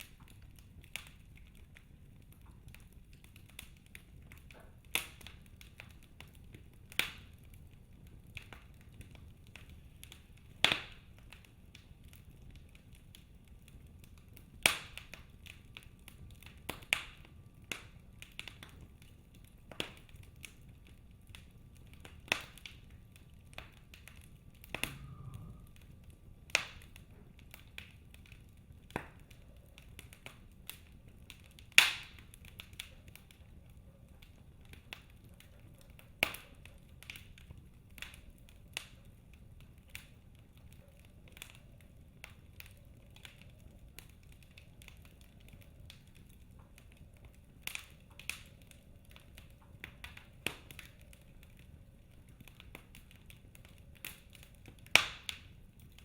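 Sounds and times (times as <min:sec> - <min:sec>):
faint low rush of fire: 0:00.0 - 0:56.0
logs crackling and popping: 0:00.0 - 0:56.0.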